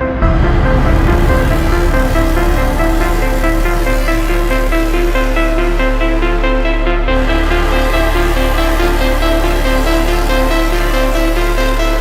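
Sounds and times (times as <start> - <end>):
sustained deep bass: 0.0 - 12.0.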